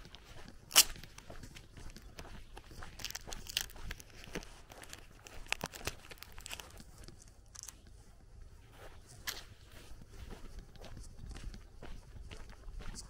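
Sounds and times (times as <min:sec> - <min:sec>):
footsteps on gravel: 0:00.0 - 0:13.0.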